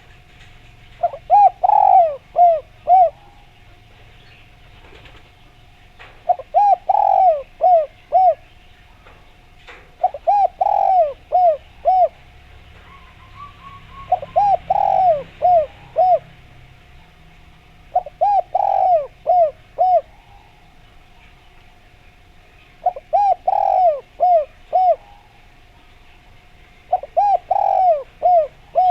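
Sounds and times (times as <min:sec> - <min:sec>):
dove cooing: 0:00.0 - 0:28.9.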